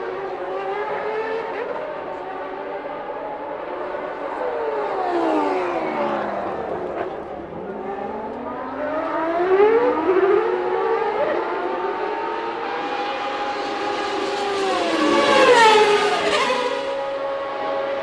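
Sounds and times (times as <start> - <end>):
racing car engines wailing: 0.0 - 18.0.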